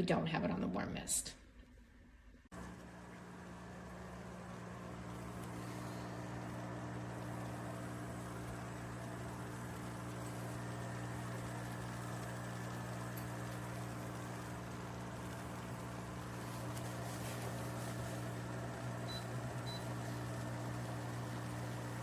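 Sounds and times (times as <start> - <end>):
humidifier humming and hissing: 0.0 - 22.0.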